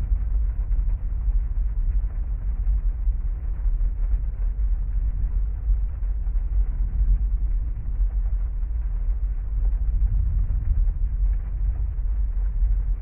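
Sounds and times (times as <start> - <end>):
muffled heavy rain on car: 0.0 - 13.0.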